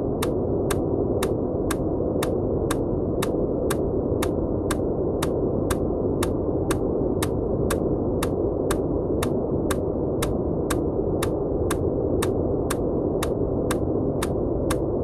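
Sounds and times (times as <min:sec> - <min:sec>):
muffled white noise: 0:00.0 - 0:15.0
sharp ticks: 0:00.2 - 0:15.0.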